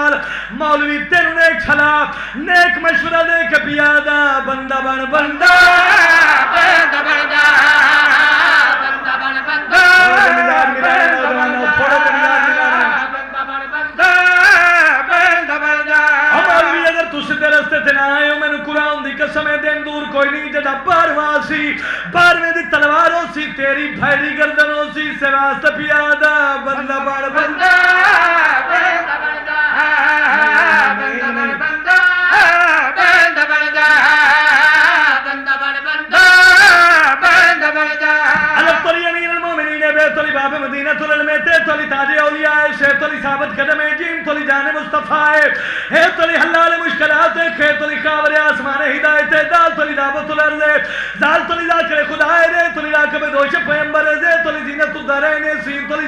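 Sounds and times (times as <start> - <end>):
amplified man chanting: 0.0 - 56.0.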